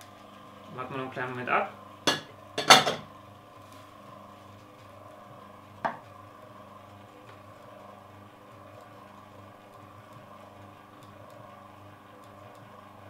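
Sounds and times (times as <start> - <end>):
juicer motors humming: 0.0 - 13.0.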